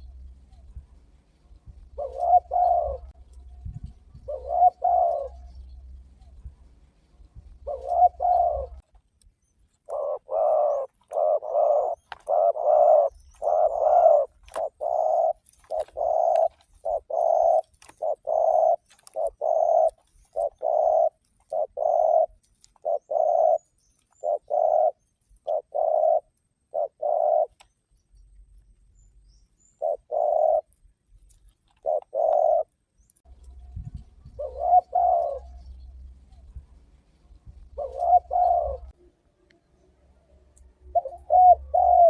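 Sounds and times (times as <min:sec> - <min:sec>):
dove cooing: 0:00.0 - 0:08.9, 0:09.8 - 0:27.6, 0:29.8 - 0:30.7, 0:31.7 - 0:32.7, 0:33.3 - 0:39.2, 0:40.0 - 0:42.0.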